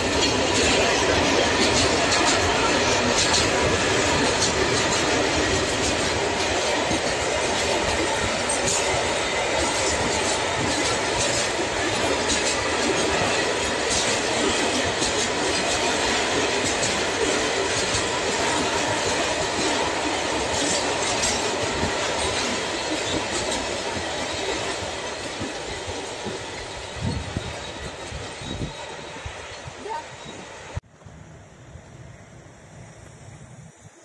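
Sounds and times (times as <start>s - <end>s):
wheels clicking over rail joints: 0.0s - 30.3s
train wheels rolling on rails: 0.0s - 34.0s.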